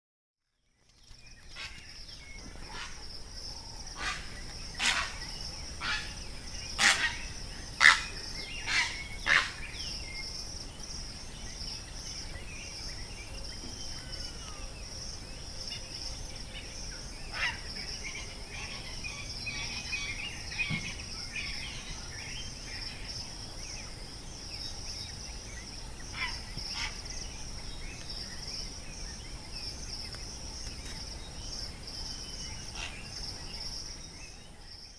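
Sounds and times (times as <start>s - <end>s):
crickets droning: 0.4s - 34.9s
faint twittering bird calls: 0.4s - 34.9s.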